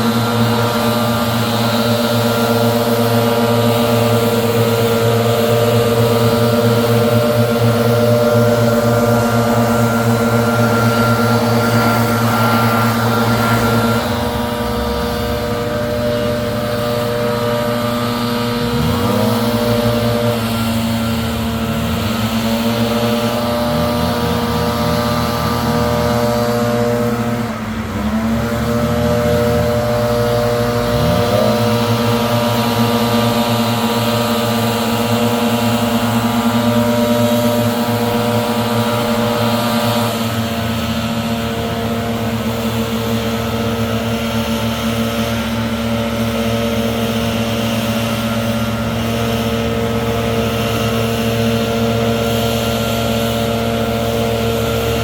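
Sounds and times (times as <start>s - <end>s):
leaf blower running: 0.0s - 55.0s.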